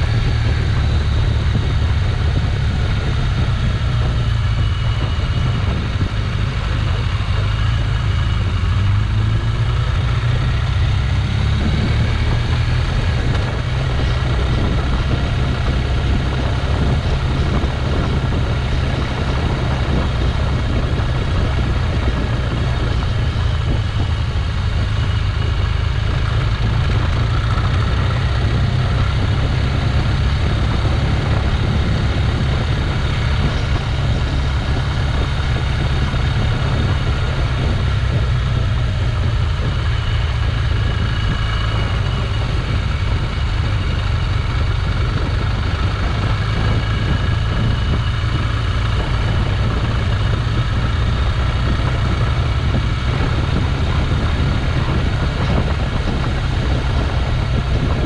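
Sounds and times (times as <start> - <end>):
motorcycle engine: 0.0 - 58.0
wind rumble on microphone: 0.0 - 58.0.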